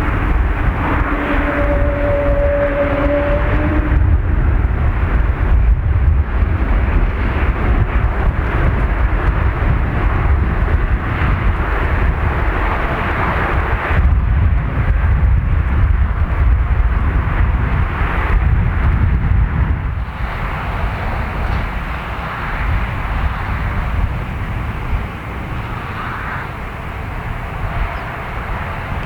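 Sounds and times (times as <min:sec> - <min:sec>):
jet engines of landing airliner: 0:00.0 - 0:29.0.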